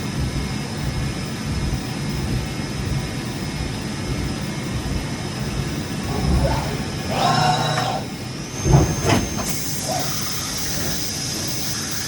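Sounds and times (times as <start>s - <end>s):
faint high whine: 0.0s - 12.0s
machine hum and rumble: 0.0s - 12.0s.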